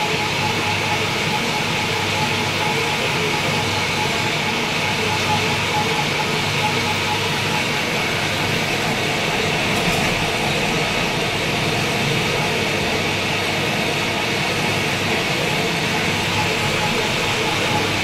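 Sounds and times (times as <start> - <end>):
metal lathe whirring: 0.0 - 18.0.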